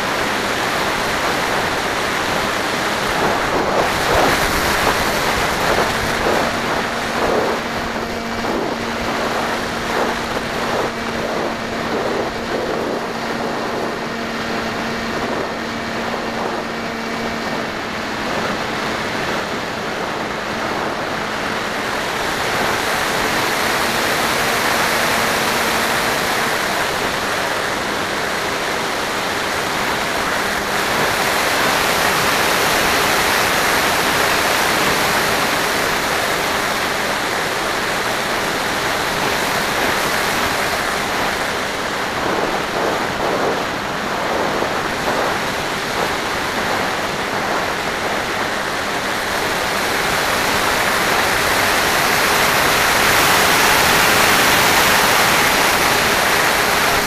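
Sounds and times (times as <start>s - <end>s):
airflow rushing over microphone: 0.0s - 57.0s
motor and propeller hum: 0.0s - 57.0s.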